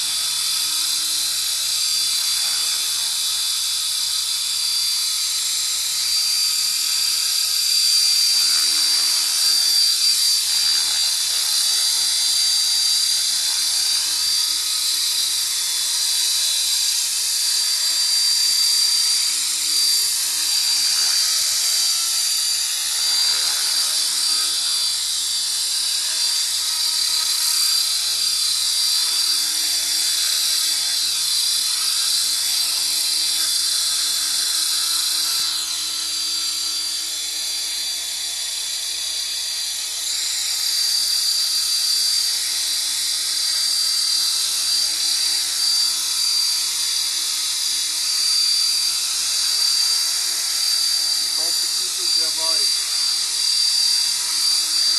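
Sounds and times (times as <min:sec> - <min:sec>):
model helicopter rotor whine: 0:00.0 - 0:54.9.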